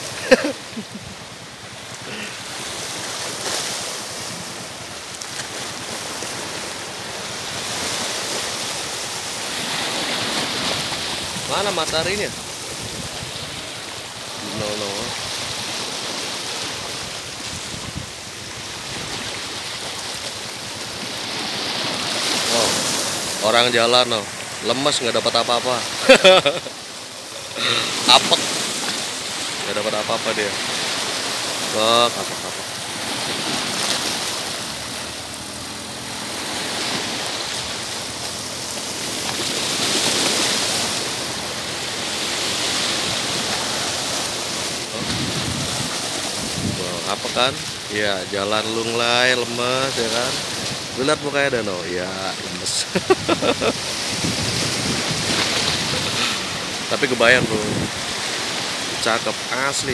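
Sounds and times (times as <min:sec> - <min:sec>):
sea water lapping: 0:00.0 - 0:59.9.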